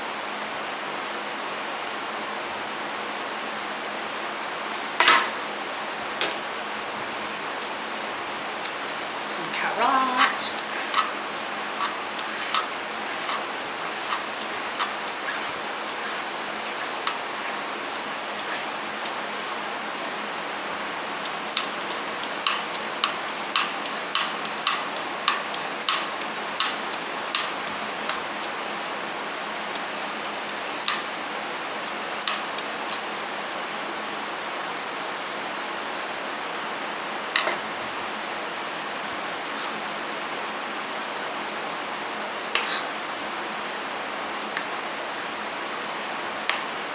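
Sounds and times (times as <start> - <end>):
steady background hiss: 0.0 - 46.9.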